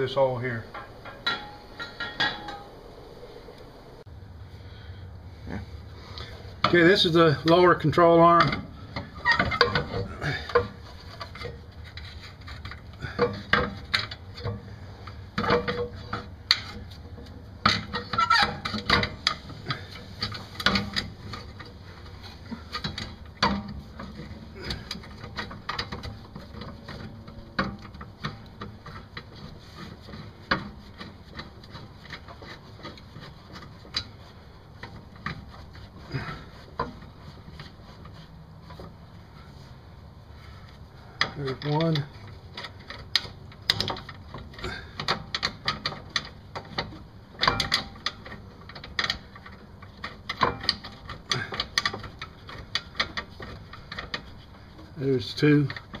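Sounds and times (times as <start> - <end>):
metal clanks and scrapes: 0.0 - 4.0, 5.5 - 56.0.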